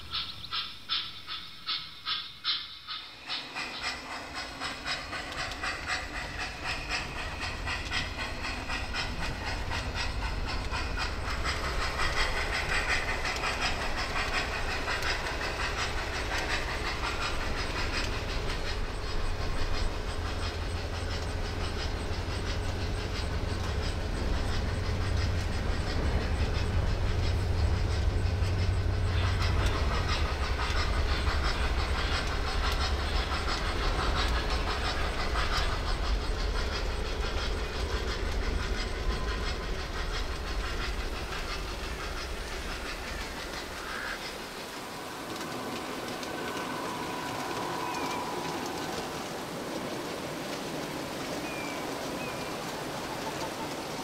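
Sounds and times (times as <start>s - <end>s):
model train clicking: 0.0s - 54.0s
model train rumbling: 0.0s - 54.0s.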